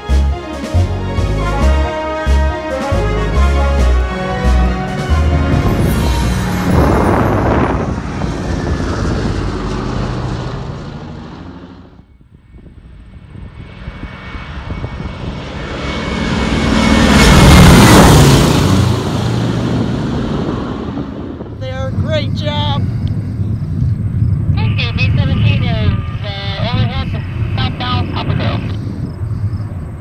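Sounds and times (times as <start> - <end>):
propeller plane engines droning: 0.0 - 30.0.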